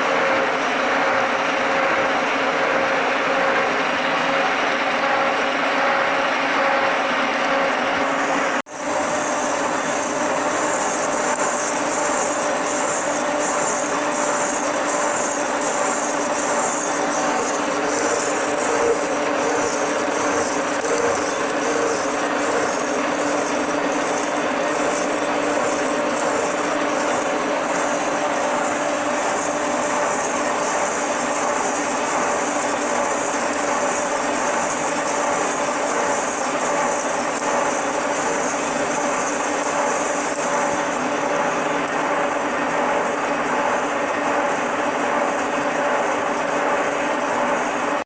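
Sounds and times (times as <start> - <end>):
machine humming: 0.0 - 48.0
milling cutter grinding through steel: 0.0 - 48.0.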